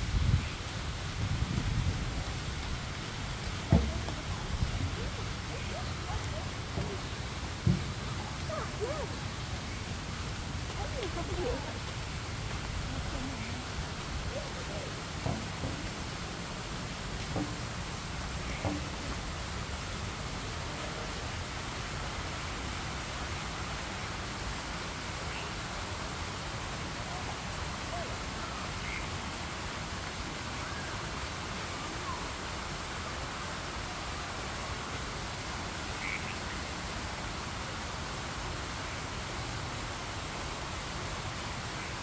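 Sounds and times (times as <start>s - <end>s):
outdoor background hiss: 0.0s - 42.0s.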